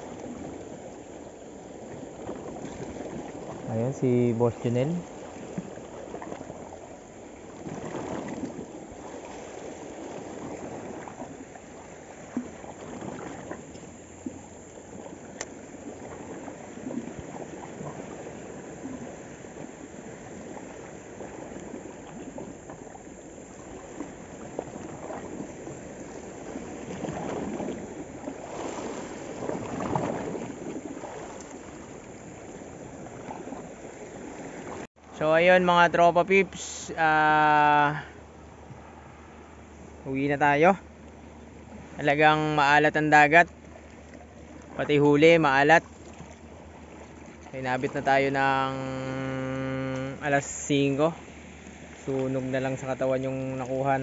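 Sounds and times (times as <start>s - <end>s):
waves lapping against rocks: 0.0s - 54.0s.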